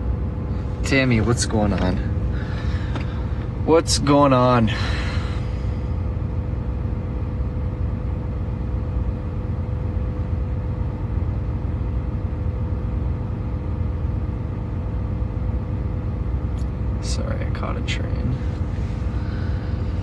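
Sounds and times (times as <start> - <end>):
faint steady hum: 0.0 - 20.0
truck engine rumbling: 0.0 - 20.0.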